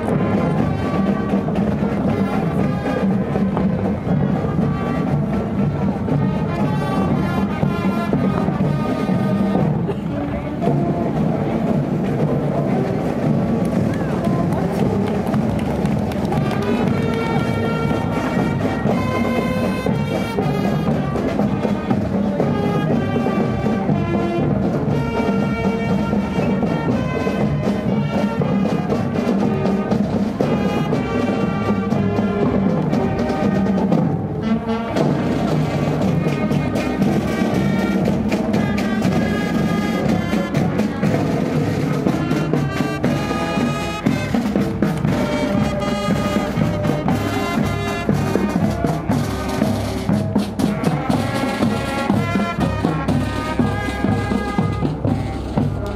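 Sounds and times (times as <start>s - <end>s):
brass instruments playing: 0.0s - 55.9s
marching drums: 0.0s - 55.9s.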